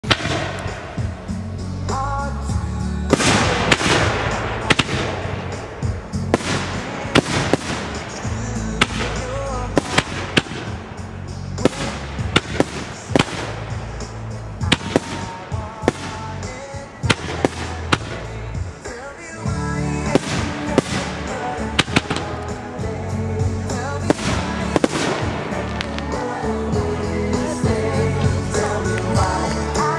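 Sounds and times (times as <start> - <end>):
firework bangs: 0.0 - 1.4, 3.1 - 26.8
background music with low beat: 0.0 - 29.9
firework hissing burst: 3.1 - 29.4.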